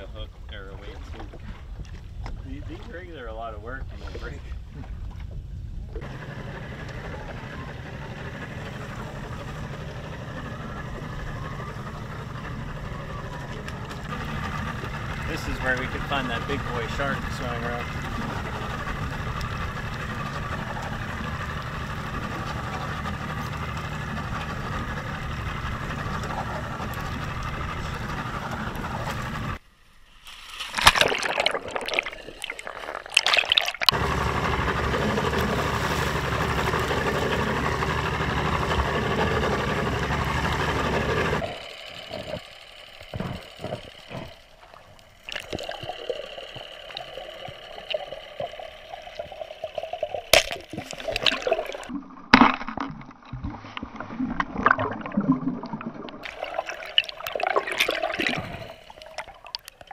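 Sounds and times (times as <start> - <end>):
steady rumble: 0.0 - 30.1, 33.9 - 59.9
water splashing: 0.0 - 59.9
underwater bubbling and gurgling: 6.9 - 29.6, 30.7 - 59.9.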